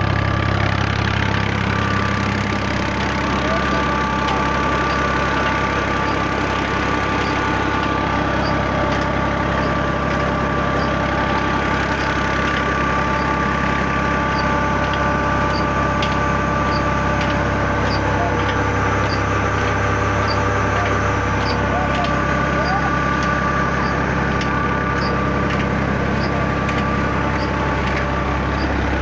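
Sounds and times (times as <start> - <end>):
diesel engine running: 0.0 - 29.0
steady whine: 0.0 - 29.0
light regular ticking: 0.8 - 29.0.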